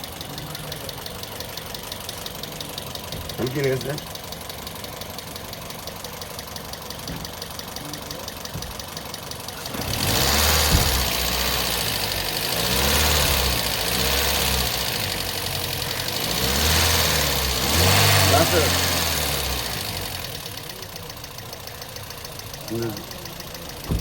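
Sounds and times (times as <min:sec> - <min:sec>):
car engine idling with ticking: 0:00.0 - 0:24.0
car engine revving: 0:00.0 - 0:24.0.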